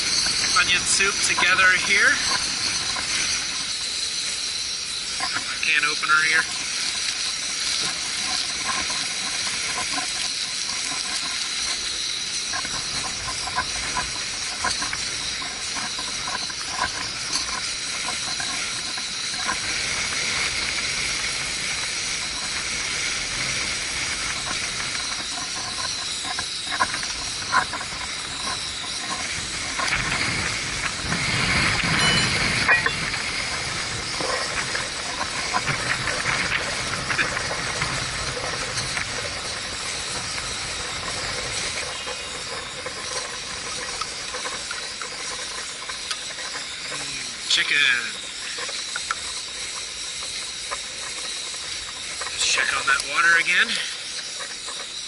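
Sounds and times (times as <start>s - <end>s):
camping stove burner hissing: 0.0s - 55.0s
wind rumbling on microphone: 0.0s - 55.0s.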